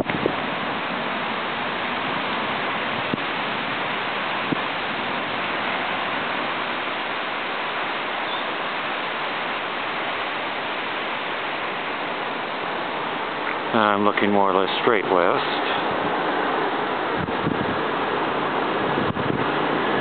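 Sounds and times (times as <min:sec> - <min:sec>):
stormy weather rushing hiss: 0:00.0 - 0:20.0.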